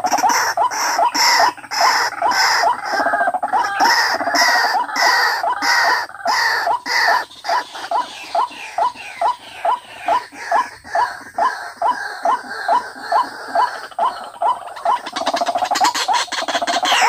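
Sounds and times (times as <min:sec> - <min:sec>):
waterhen croaking calls: 0:00.0 - 0:17.0.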